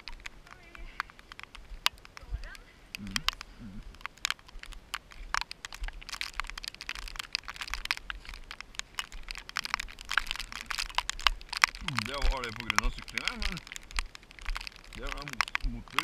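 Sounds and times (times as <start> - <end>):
running footsteps on rocky trail: 0.0 - 16.0.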